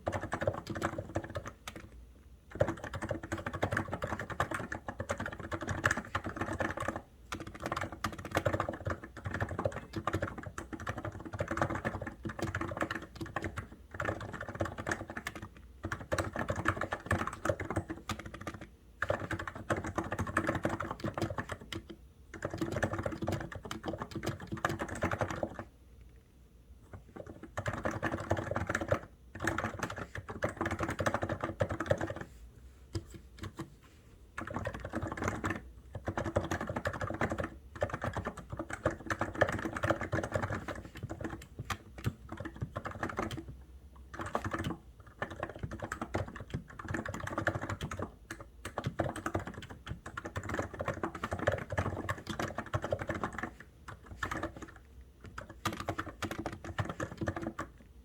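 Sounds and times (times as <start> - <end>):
fast typing on keyboard: 0.0 - 25.7, 26.9 - 33.7, 34.3 - 57.8.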